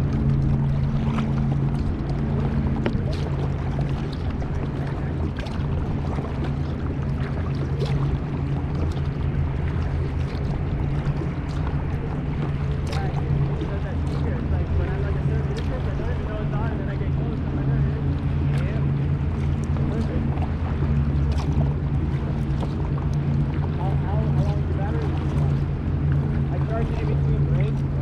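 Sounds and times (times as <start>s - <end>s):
boat engine hum: 0.0s - 28.0s
small splashes: 0.0s - 28.0s
water: 0.0s - 28.0s.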